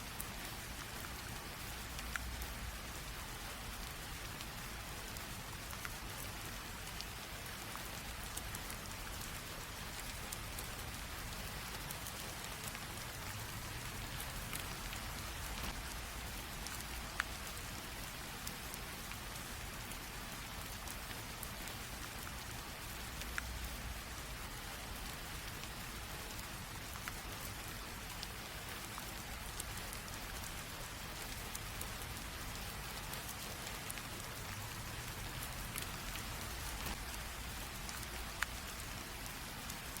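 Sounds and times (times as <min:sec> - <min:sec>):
light rain drizzling: 0:00.0 - 0:40.0
raindrops ticking: 0:00.1 - 0:40.0.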